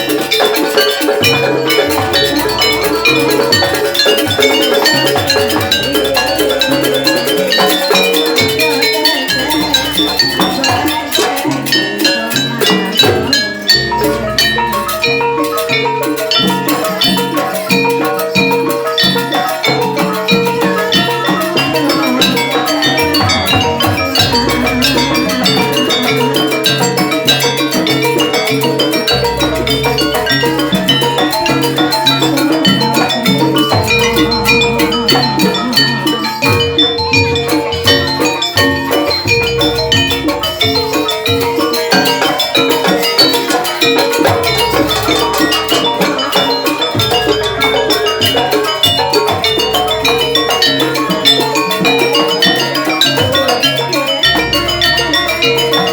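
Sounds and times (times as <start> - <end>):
drum and percussion ensemble: 0.0 - 55.9
held melody line: 0.0 - 55.9.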